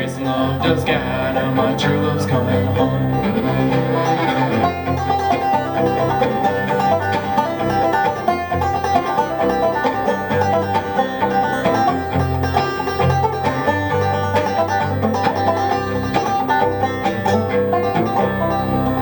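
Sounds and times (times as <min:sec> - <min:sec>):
acoustic strings picked rapidly: 0:00.0 - 0:19.0.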